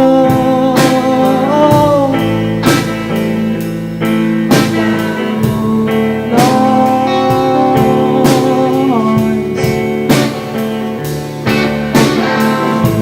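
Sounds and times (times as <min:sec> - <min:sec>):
bass guitar: 0:00.0 - 0:13.0
drums: 0:00.0 - 0:13.0
electric guitar sustained notes: 0:00.0 - 0:13.0.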